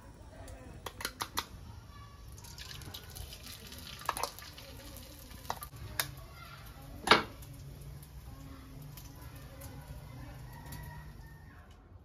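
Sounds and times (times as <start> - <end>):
hot oil crackling: 0.0 - 11.8.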